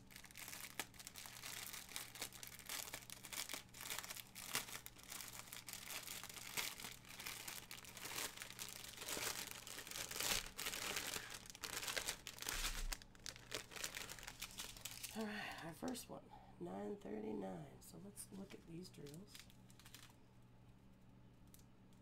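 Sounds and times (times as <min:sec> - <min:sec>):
plastic packaging crinkling: 0:00.0 - 0:16.0, 0:18.4 - 0:22.0.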